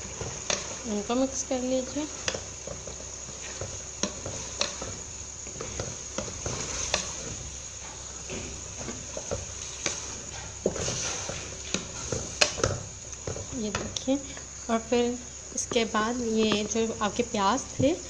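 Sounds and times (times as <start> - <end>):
food sizzling in oil: 0.0 - 18.0
wooden spatula scraping a pot: 0.0 - 18.0.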